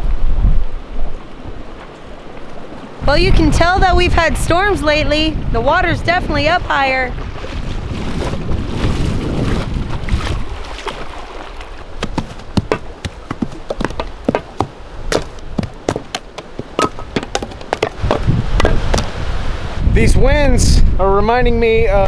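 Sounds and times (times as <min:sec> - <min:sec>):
wind on microphone: 0:00.0 - 0:22.0
water lapping against rocks: 0:00.9 - 0:19.4.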